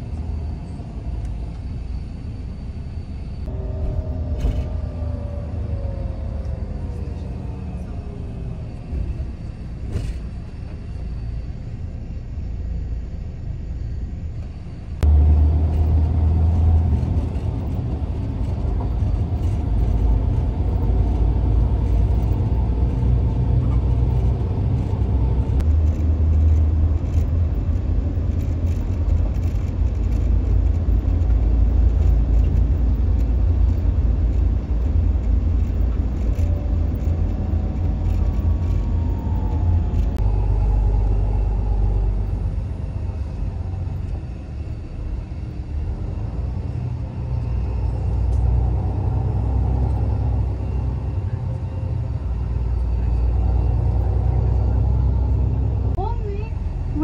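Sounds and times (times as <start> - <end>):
road and engine rumble: 0.0 - 57.0.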